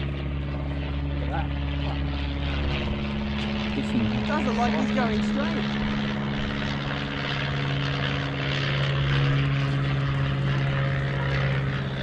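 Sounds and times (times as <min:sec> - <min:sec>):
droning engine hum: 0:00.0 - 0:12.0.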